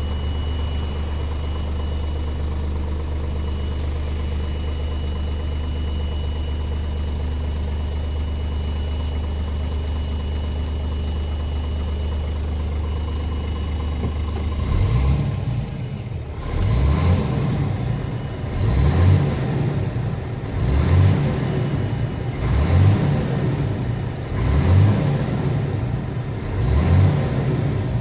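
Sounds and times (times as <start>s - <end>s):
diesel truck engine idling and revving: 0.0s - 28.0s.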